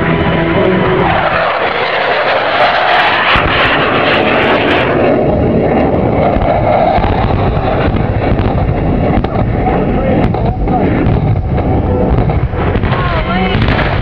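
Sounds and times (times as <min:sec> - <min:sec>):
jet engines on low pass: 0:00.0 - 0:14.0.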